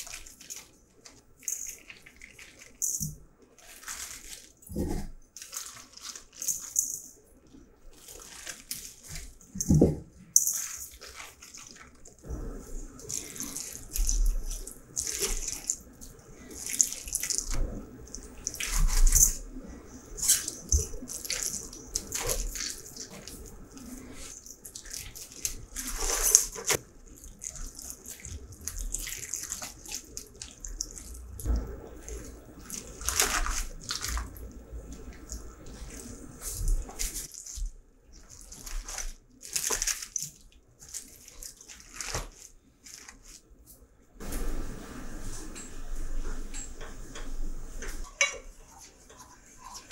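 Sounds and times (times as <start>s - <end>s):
water splashing and trickling: 0.0s - 43.4s.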